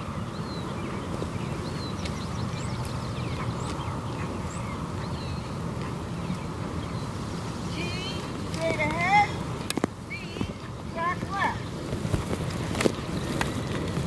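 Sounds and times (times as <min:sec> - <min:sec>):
birds chirping: 0:00.0 - 0:14.0
low rushing background noise: 0:00.0 - 0:14.0.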